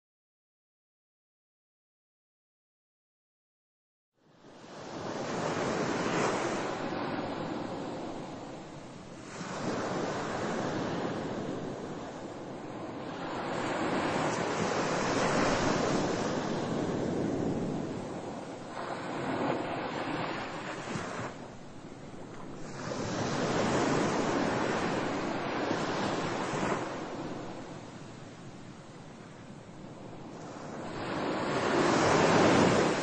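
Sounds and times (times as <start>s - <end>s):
ocean surf rushing: 5.0s - 33.0s.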